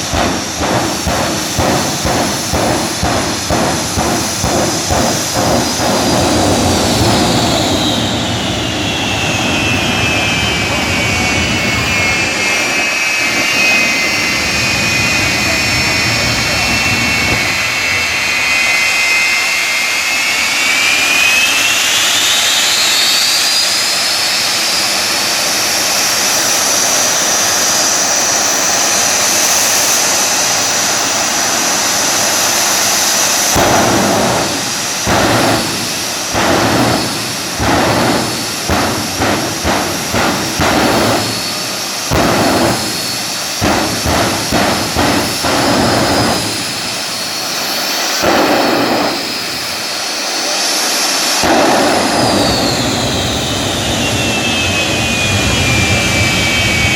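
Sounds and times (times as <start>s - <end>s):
loud abrupt blasts: 0.0s - 56.9s
turbine whine spooling up: 0.0s - 56.9s.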